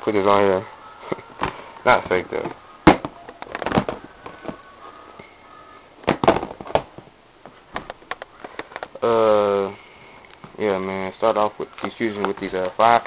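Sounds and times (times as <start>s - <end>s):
faint music: 0.0s - 13.0s.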